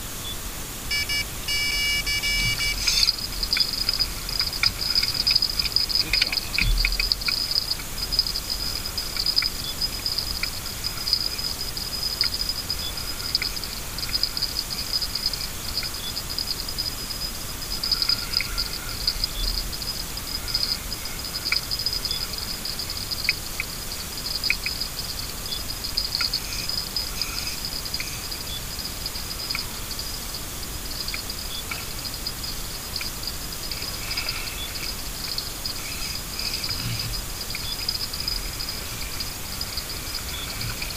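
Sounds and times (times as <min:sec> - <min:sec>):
high-pitched flickering chirring: 0:00.2 - 0:40.9.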